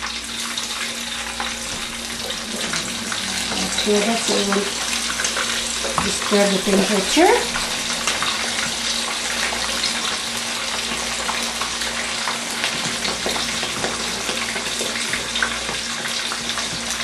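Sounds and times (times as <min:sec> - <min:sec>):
fish sizzling in hot oil: 0:00.0 - 0:17.0
oil crackles and pops: 0:00.0 - 0:17.0.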